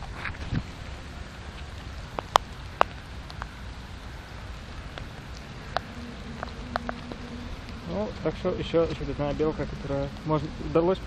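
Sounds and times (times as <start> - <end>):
raindrops ticking sharply: 0.0 - 11.0
steady rain: 0.0 - 11.0.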